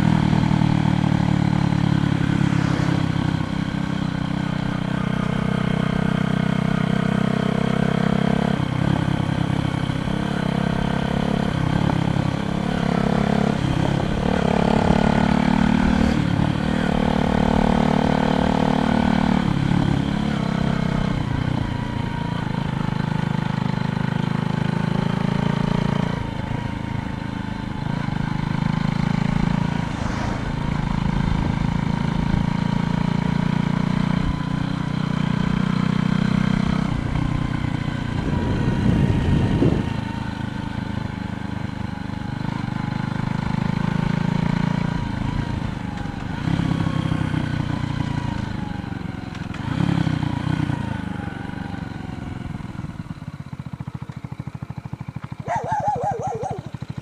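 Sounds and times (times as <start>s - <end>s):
vehicle engine running: 0.0s - 7.2s, 7.8s - 57.0s.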